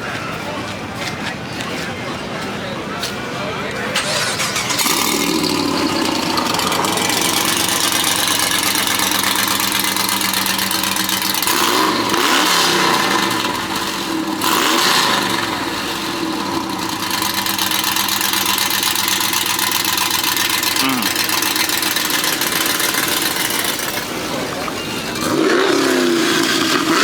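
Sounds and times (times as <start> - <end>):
car engine idling and revving: 4.0 - 27.0.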